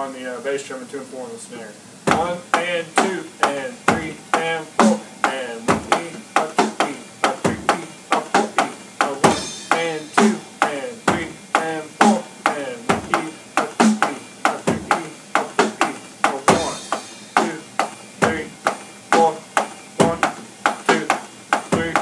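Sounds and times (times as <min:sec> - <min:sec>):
electronic drum beat: 0:02.1 - 0:22.0.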